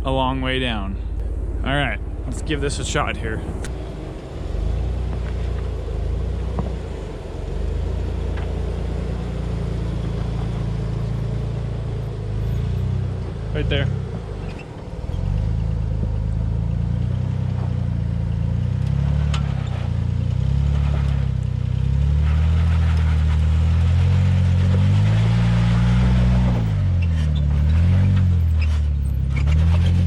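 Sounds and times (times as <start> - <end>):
engine revving at low speed: 1.0 - 30.0.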